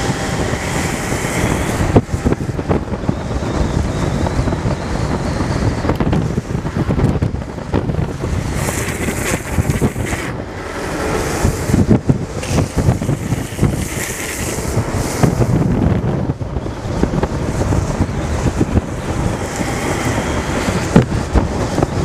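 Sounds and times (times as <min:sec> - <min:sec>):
longboard wheels rolling on asphalt: 0:00.0 - 0:22.0
wind buffeting microphone: 0:00.0 - 0:22.0.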